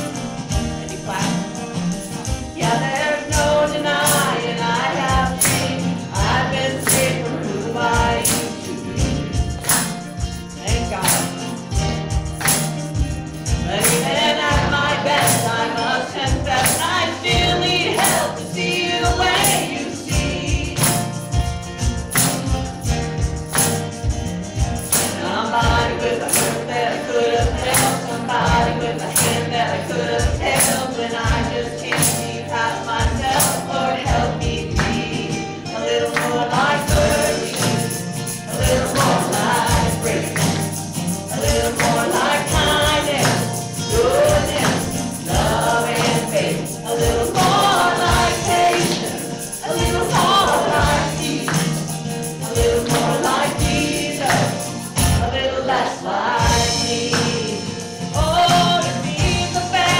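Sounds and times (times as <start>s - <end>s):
choir singing: 0.0s - 21.9s, 24.8s - 59.9s
instrumental backing: 0.0s - 59.9s
percussion hits: 0.0s - 59.9s.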